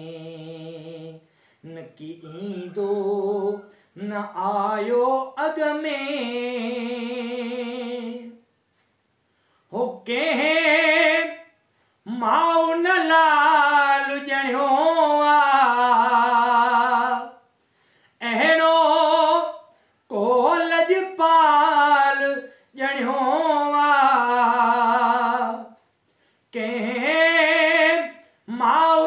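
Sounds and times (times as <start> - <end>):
man singing unaccompanied: 0.0 - 8.5, 9.7 - 17.6, 18.2 - 25.9, 26.5 - 29.0.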